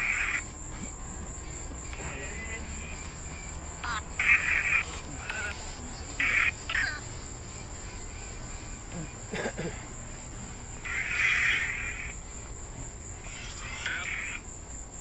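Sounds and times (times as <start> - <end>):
insects buzzing in bursts: 0.0 - 15.0.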